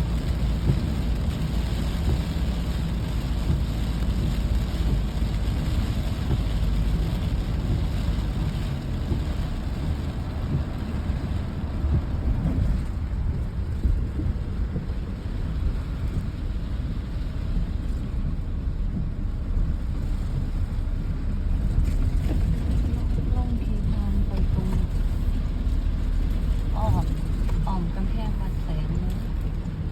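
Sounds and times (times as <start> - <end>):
deep continuous rumble: 0.0 - 29.9
rain falling: 0.0 - 29.9.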